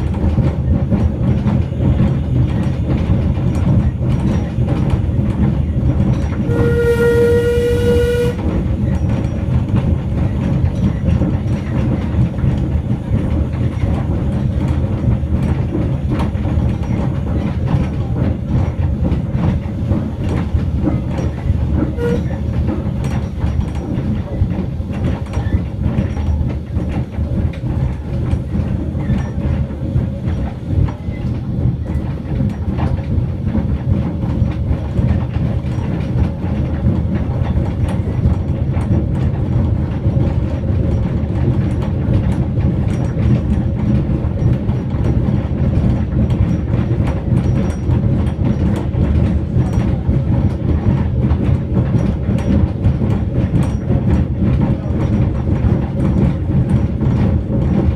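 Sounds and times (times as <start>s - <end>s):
train wheels rumbling on track: 0.0s - 57.9s
wheels clicking over rails: 0.0s - 57.9s.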